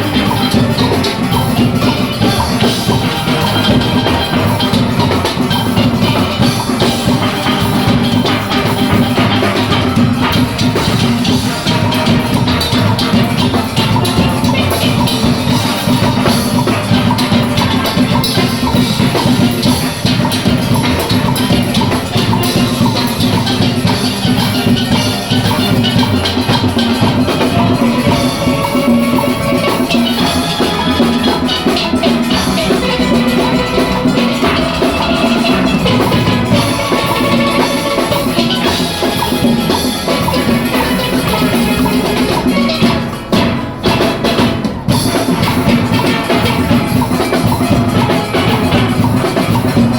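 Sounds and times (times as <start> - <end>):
drum kit and percussion: 0.0 - 49.9
steelpan band playing: 0.0 - 49.9.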